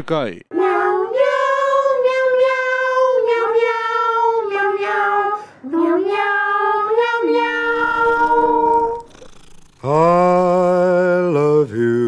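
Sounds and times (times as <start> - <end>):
high voice singing long notes: 0.5 - 12.0.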